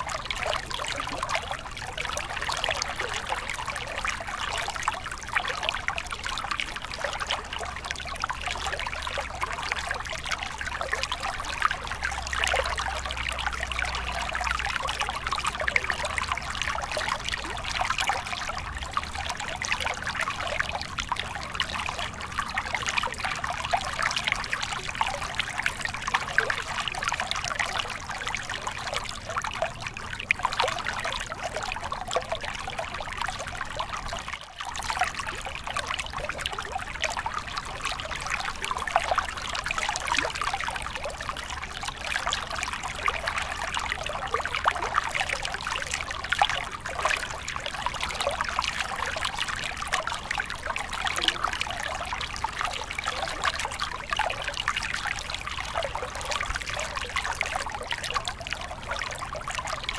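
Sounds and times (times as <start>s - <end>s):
stream water trickling over rocks: 0.0s - 59.9s.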